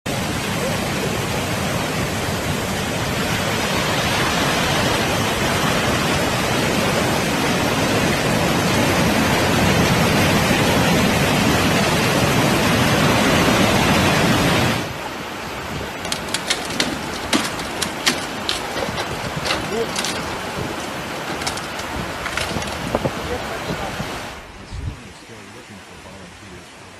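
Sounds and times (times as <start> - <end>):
rushing storm water: 0.1 - 24.5.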